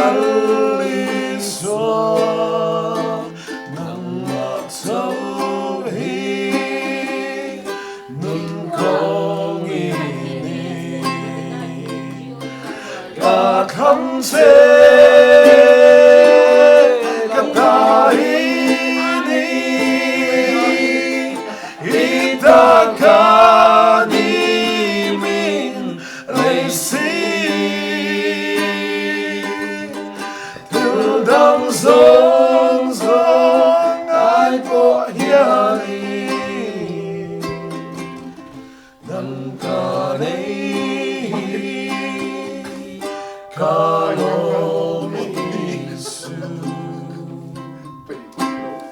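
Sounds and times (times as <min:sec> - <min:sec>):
person singing through pa: 0:00.0 - 0:48.9
plucked string accompaniment: 0:00.0 - 0:48.9.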